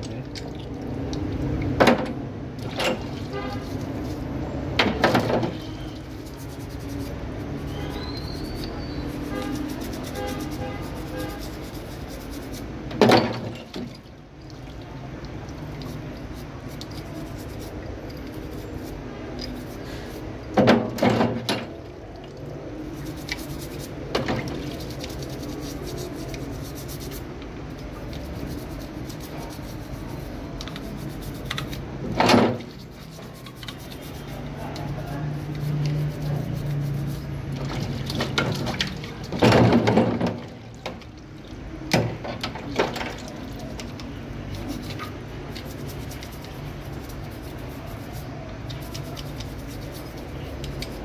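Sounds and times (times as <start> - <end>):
water dripping and splashing: 0.0 - 4.4, 5.0 - 19.7, 21.6 - 31.9, 32.5 - 47.6
brush scrubbing in soapy water: 2.7 - 20.4, 22.4 - 41.5, 43.1 - 51.0.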